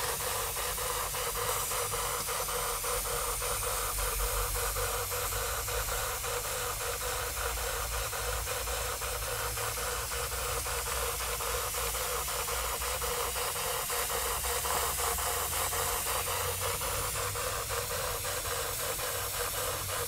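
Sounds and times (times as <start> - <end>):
steady steam hiss: 0.0 - 20.0
steam engine fast clicking beat: 0.0 - 20.0.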